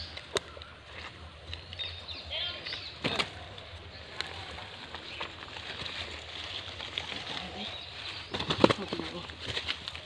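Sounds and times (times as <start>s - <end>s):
leaves and grass rustling: 0.0s - 10.0s.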